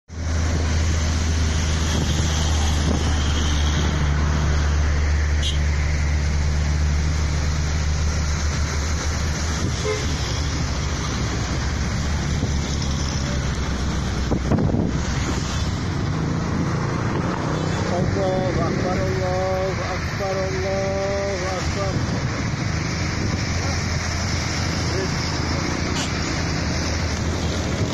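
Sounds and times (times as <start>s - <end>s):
road traffic: 0.1s - 27.9s.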